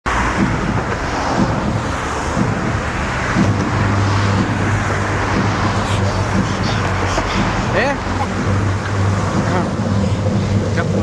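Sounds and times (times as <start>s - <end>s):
steady low hum: 0.1s - 11.0s
wind rumble on microphone: 0.1s - 11.0s.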